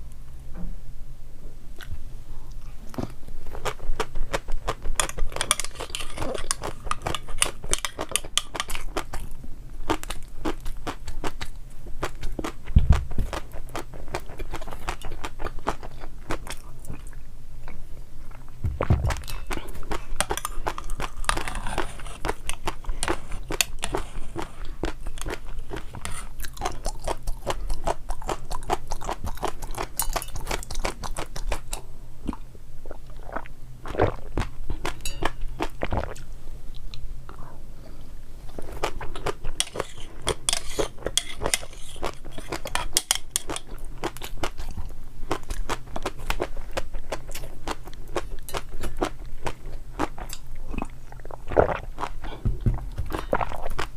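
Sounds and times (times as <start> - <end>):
faint low hum: 0.0 - 53.9
chewing crunchy food: 1.8 - 37.6, 38.5 - 53.9.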